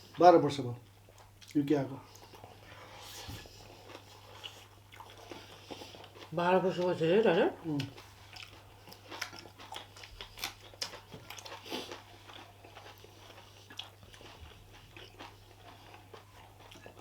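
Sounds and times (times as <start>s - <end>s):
chewing and crunching food: 0.0s - 17.0s
low electrical hum: 0.0s - 17.0s.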